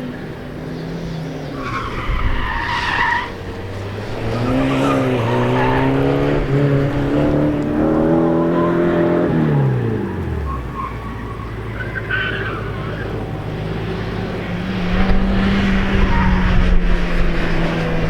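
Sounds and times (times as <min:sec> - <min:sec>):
car engine accelerating: 0:00.0 - 0:18.0
tires squealing: 0:00.0 - 0:18.0.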